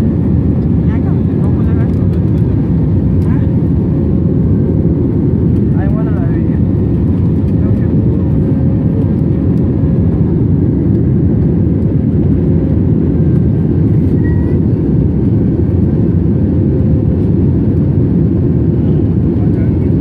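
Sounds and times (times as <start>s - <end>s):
airliner engine rumble: 0.0s - 20.0s.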